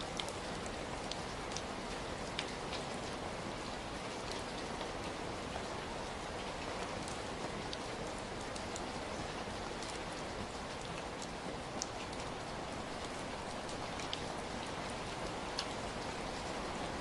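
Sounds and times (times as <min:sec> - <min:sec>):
raindrops ticking close by: 0:00.0 - 0:17.0
steady rain hiss: 0:00.0 - 0:17.0.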